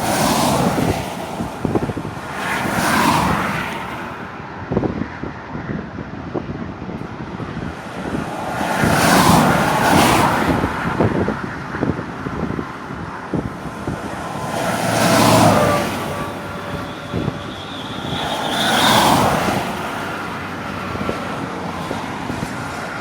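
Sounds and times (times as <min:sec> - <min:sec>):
road vehicles passing by: 0:00.0 - 0:23.0.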